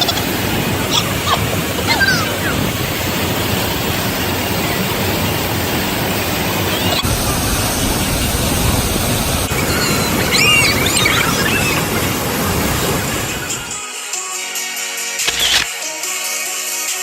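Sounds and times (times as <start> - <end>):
waterfall roaring: 0.0 - 13.8.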